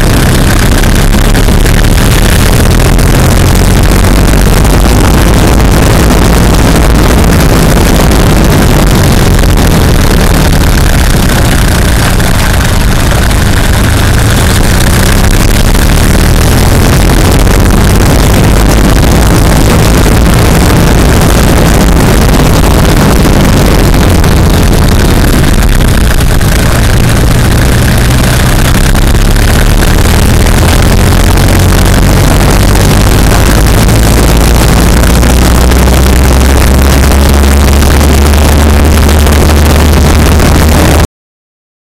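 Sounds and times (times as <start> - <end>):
engine drone: 0.0 - 41.1
road and tyre noise: 0.0 - 41.1.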